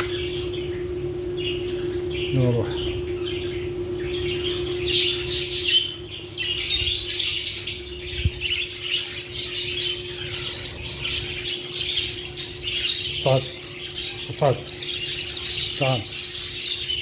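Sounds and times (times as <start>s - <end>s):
lovebirds chirping and squawking: 0.0s - 17.0s
steady low hum: 0.0s - 17.0s.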